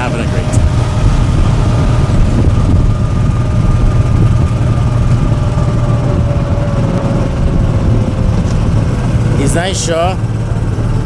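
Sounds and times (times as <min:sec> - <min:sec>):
tractor engine rumbling: 0:00.0 - 0:11.0.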